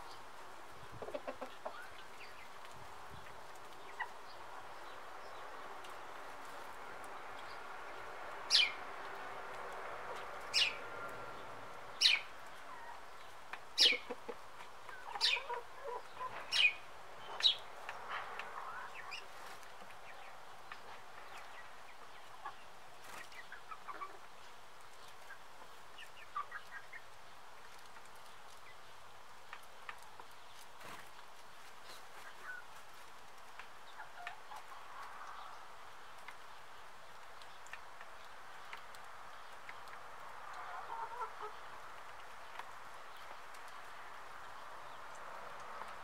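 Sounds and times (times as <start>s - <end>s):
chickens clucking: 0.0s - 28.8s, 29.4s - 46.0s.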